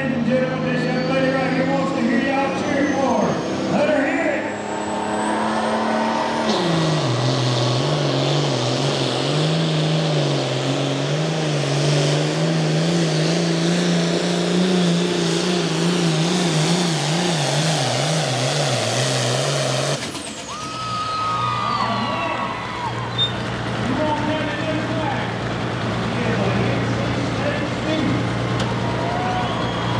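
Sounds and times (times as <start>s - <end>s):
tractor engine at full throttle: 0.0s - 29.9s.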